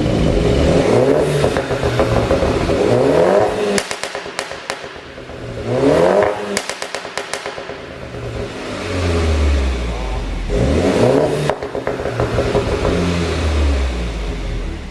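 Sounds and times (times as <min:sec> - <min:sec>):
car engine revving: 0:00.0 - 0:14.9
exhaust pops and crackles: 0:00.0 - 0:14.9.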